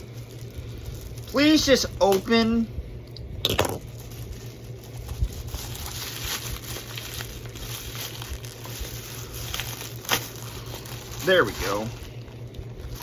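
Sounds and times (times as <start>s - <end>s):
packaging crinkling: 0.0s - 2.7s, 3.4s - 13.0s.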